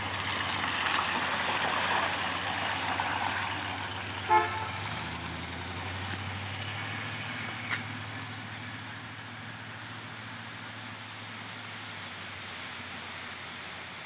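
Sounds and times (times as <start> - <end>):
car engine driving away: 0.0 - 13.9
tyres on wet road: 0.0 - 14.0.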